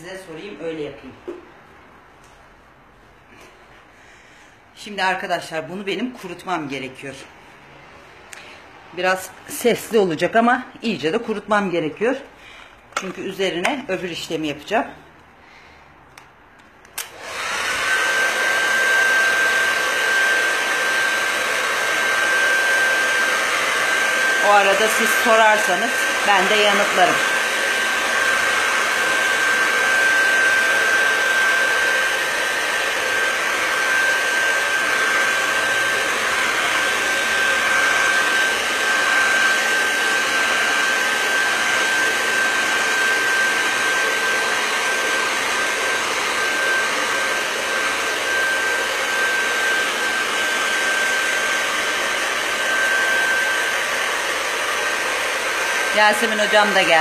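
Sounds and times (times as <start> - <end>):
hair dryer running: 0.0 - 15.3, 16.1 - 57.0.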